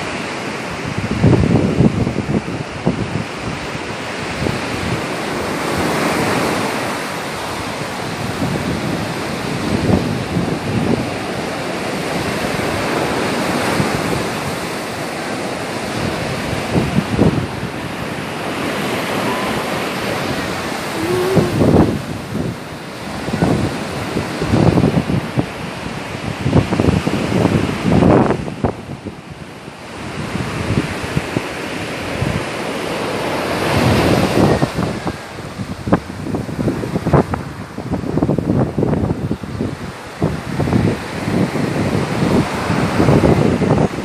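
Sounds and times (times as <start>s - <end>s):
sea surf breaking on beach: 0.0s - 44.0s
wind buffeting microphone: 0.0s - 44.0s.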